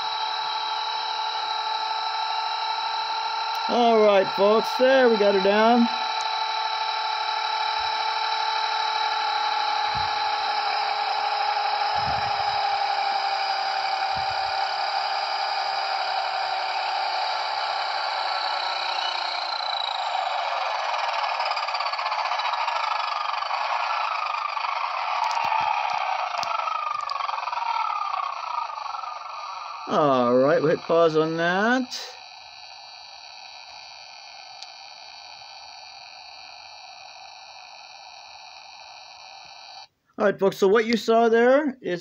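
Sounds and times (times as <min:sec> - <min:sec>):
rc helicopter rotor whining: 0:00.0 - 0:40.0.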